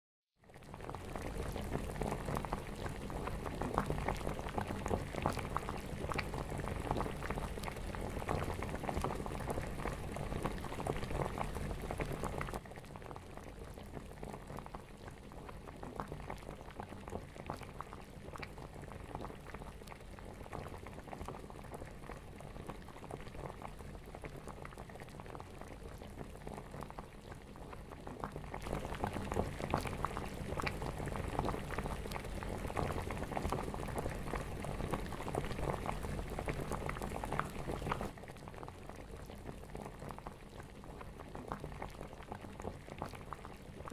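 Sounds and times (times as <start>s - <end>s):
stew bubbling in a pot: 0.4s - 43.9s.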